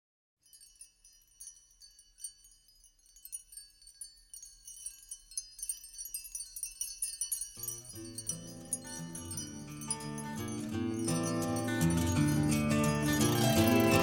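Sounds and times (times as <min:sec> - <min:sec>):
high tinkling chimes: 0:00.4 - 0:14.0.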